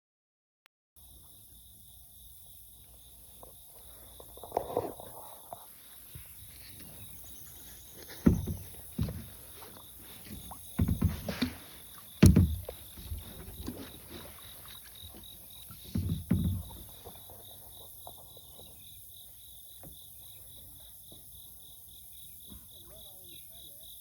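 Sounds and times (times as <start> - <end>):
insects chirping: 1.0 - 24.0
kayak paddle strokes: 1.1 - 22.8.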